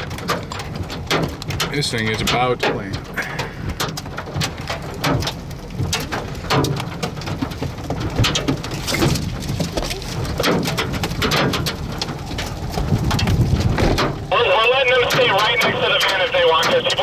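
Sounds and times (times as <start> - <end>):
hailstones striking: 0.0 - 17.0
rain: 0.0 - 17.0
wind rumble on microphone: 0.0 - 17.0.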